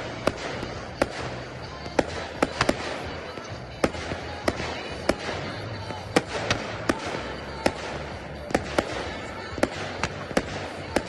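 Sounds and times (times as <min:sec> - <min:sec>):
firework shells bursting: 0:00.0 - 0:11.0
fireworks crackle: 0:00.0 - 0:11.0.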